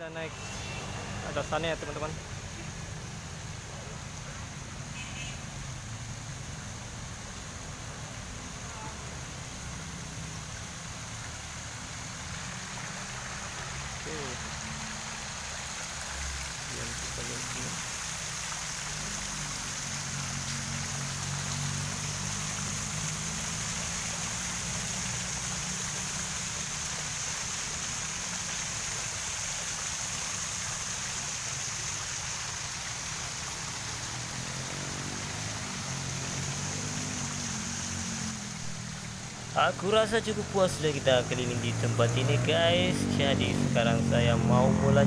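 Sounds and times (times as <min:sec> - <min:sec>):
fountain water splashing: 0:00.0 - 0:45.0.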